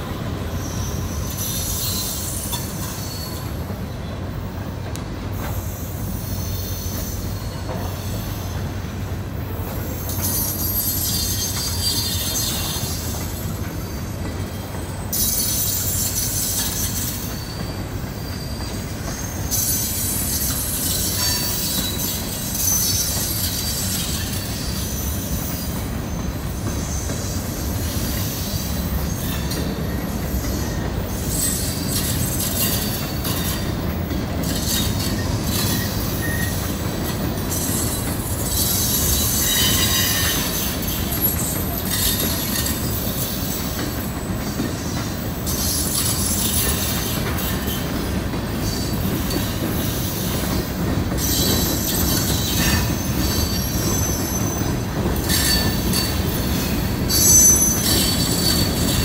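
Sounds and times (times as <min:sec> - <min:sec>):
train wheels rumbling on rails: 0:00.0 - 0:59.0
high-pitched wheel squeal: 0:00.6 - 0:03.6, 0:09.5 - 0:14.1, 0:15.0 - 0:36.8, 0:37.4 - 0:47.9, 0:51.2 - 0:59.0.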